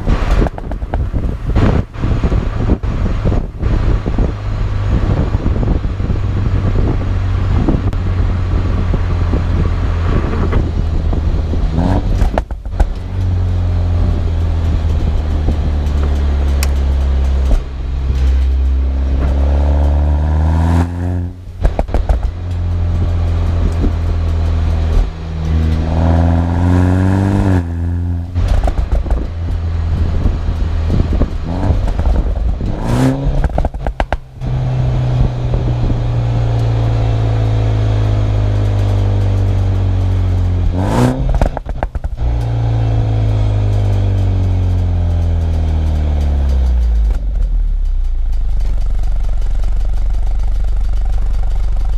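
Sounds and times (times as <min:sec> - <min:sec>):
car engine accelerating hard: 0:00.0 - 0:51.9
exhaust pops and crackles: 0:00.0 - 0:51.9.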